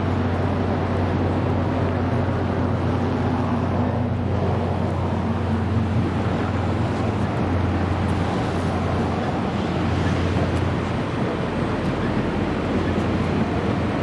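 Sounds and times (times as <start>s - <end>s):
vehicle running with deep hum: 0.0s - 14.0s.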